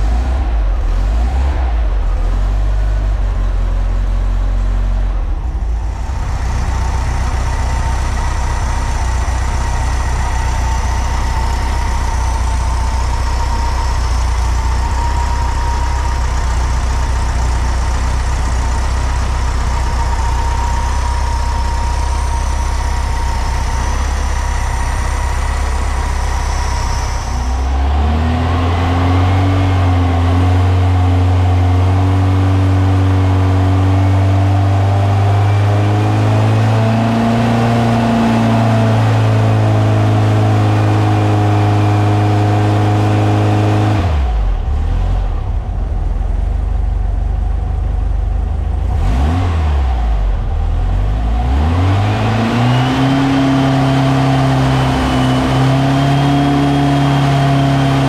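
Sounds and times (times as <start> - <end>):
high whine: 0.0 - 49.0
engine running steadily: 0.0 - 58.0.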